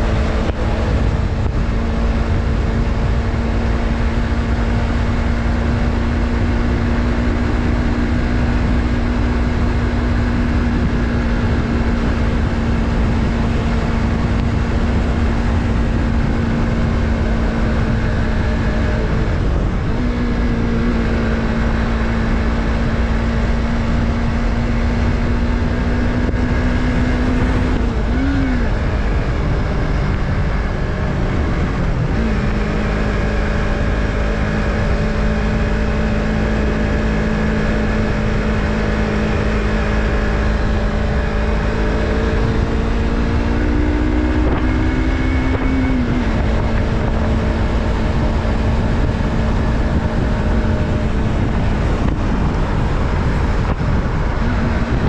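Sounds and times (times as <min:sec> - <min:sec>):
motorcycle engine riding: 0:00.0 - 0:55.0
wind rushing: 0:05.6 - 0:55.0.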